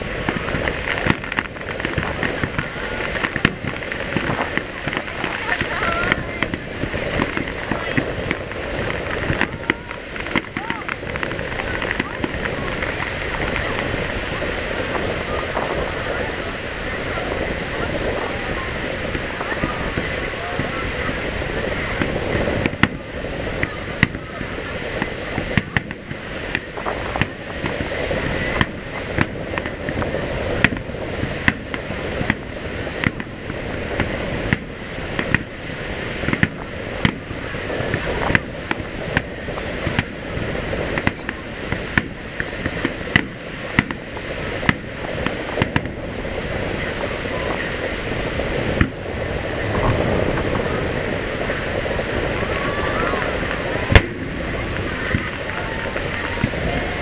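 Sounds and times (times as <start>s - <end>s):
fireworks bursting with bangs: 0.0s - 57.0s
steady background noise: 0.0s - 57.0s.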